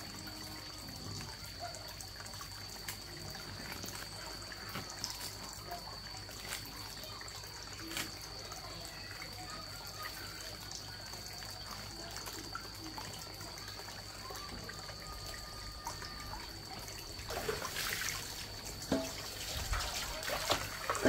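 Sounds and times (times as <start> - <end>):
thin high steady tone: 0.0 - 20.2
water trickling: 0.0 - 21.0.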